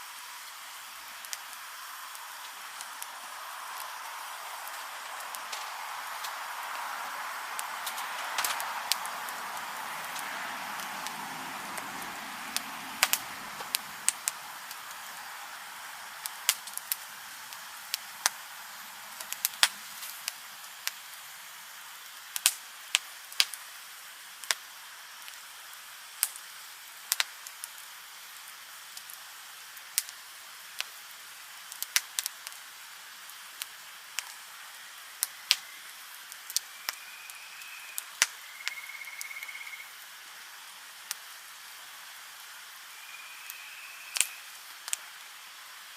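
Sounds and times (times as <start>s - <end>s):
wood fire crackling: 0.0s - 37.0s, 37.6s - 38.8s, 39.9s - 45.9s.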